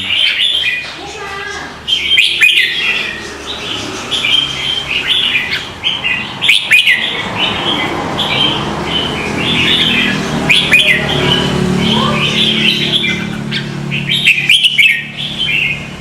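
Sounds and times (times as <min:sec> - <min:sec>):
bird chirping rapidly: 0:00.0 - 0:16.0
sharp bird calls: 0:00.0 - 0:16.0.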